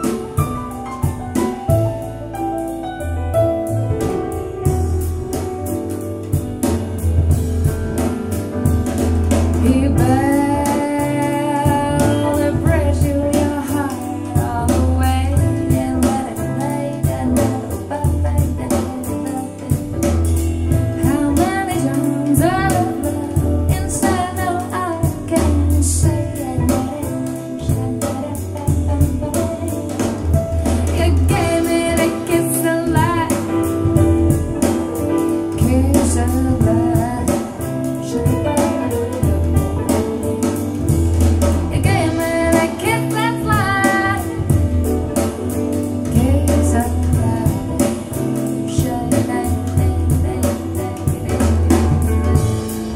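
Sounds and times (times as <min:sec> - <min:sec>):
band with guitar bass and drums: 0:00.0 - 0:52.9.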